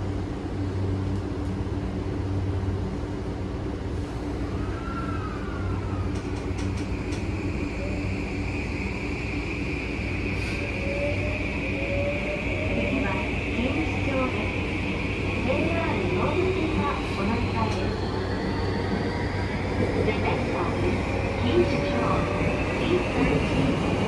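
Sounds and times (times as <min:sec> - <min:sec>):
train wheels and motors rumbling: 0:00.0 - 0:24.0.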